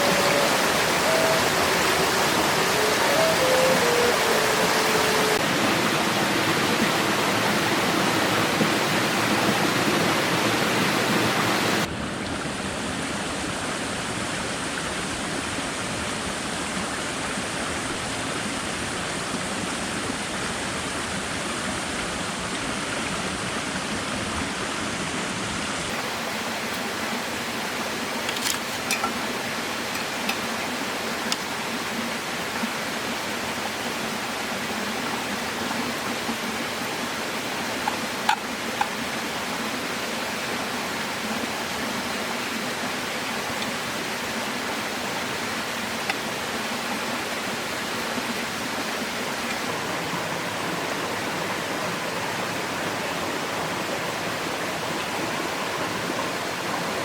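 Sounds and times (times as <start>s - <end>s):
rushing hiss of water: 0.0s - 11.9s, 12.6s - 57.0s.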